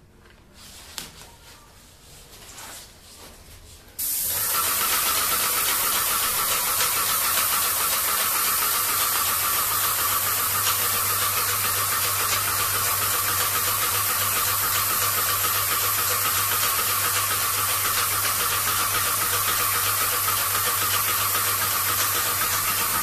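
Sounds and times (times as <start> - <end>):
paint sprayer hissing: 4.0 - 23.0.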